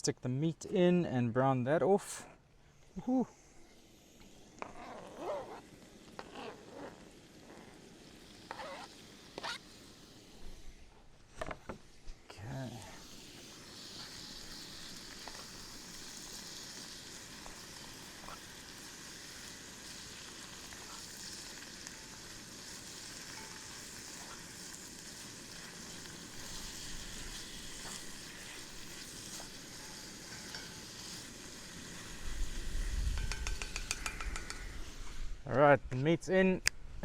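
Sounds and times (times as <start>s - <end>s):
meat sizzling in a pan: 3.0s - 10.8s, 11.8s - 35.4s.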